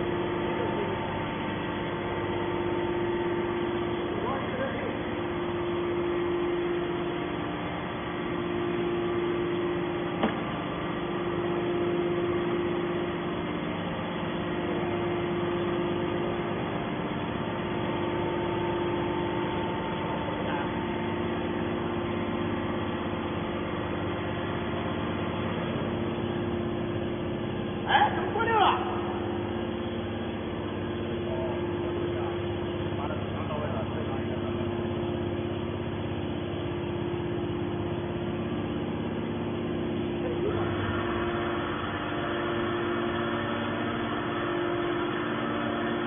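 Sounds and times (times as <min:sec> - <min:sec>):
hydraulic baler motor humming: 0:00.0 - 0:46.0.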